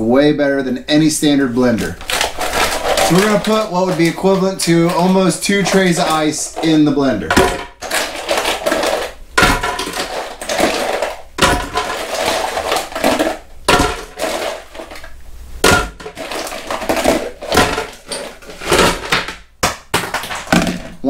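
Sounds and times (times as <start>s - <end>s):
ice cubes clattering into pitcher: 1.7s - 21.0s.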